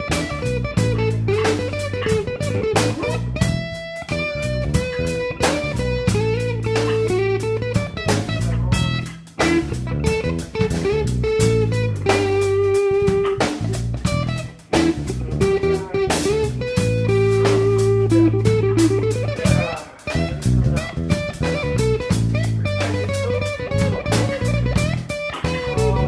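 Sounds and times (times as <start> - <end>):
bass notes: 0.0 - 26.0
drum kit: 0.0 - 26.0
electric guitar music: 0.0 - 26.0.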